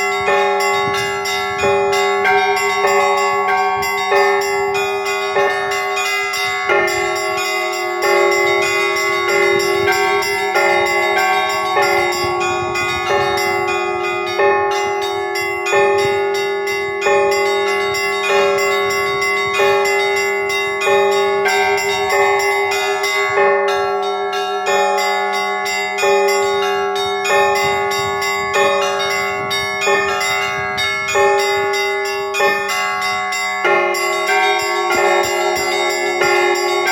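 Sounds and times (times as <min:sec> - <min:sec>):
large church bell striking: 0:00.0 - 0:36.9
small bells ringing quickly: 0:00.0 - 0:36.9.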